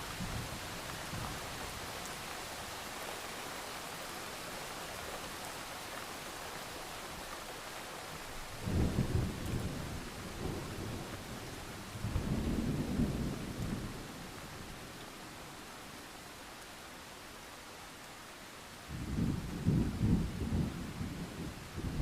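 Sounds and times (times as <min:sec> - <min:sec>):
rain hiss: 0:00.0 - 0:22.0.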